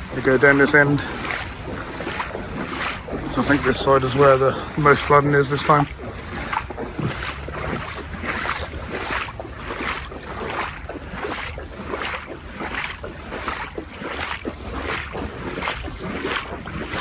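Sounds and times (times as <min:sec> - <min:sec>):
wading through water: 0:00.0 - 0:17.0.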